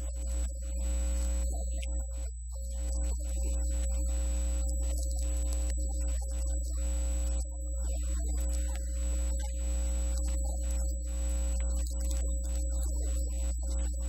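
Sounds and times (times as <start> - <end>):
faint thin steady tones: 0.0 - 14.0
steady low hum: 0.0 - 14.0.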